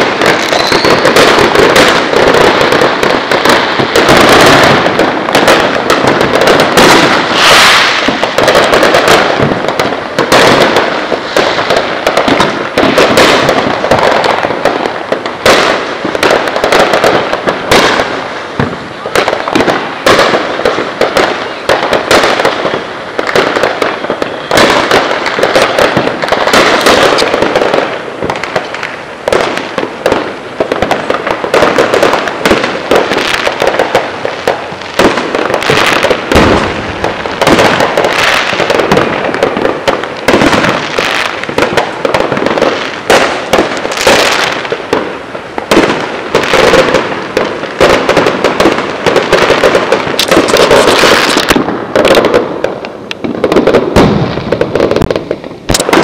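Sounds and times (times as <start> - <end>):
fireworks bangs and crackling pops: 0.0 - 56.0.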